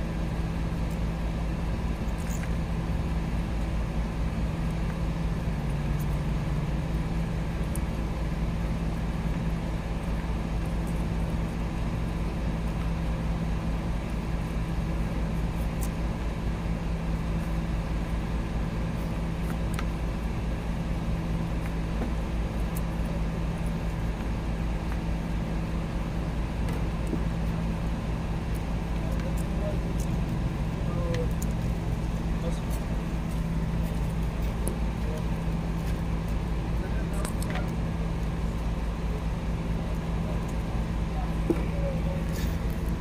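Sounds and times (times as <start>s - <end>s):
constant rumble: 0.0s - 43.0s
low mechanical hum: 0.0s - 43.0s.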